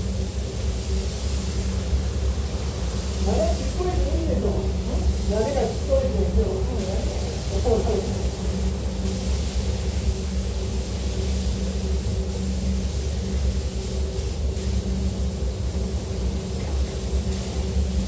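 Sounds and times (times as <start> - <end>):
ventilation hum: 0.0 - 18.0
spray guns hissing: 2.6 - 18.0.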